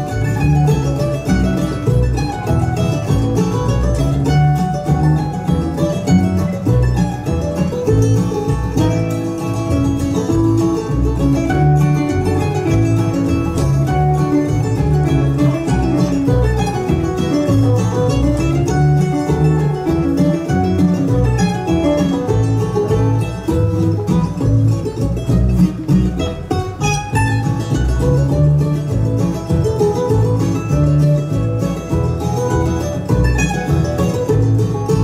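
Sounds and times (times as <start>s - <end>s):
banjo and guitar band music: 0.0s - 35.0s
pulsing bass: 0.0s - 35.0s.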